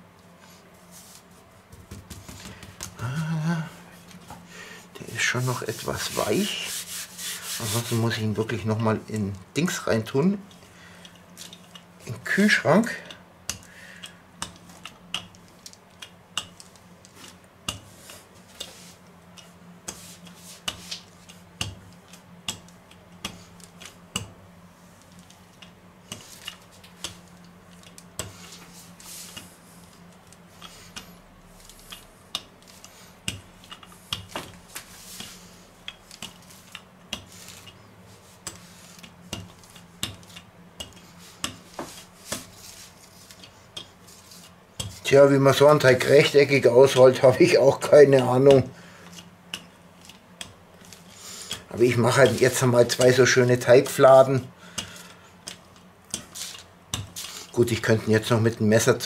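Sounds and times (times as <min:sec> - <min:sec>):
low steady hum: 0:00.0 - 0:59.0
rolling pin rolling dough: 0:00.5 - 0:10.6, 0:14.4 - 0:59.0.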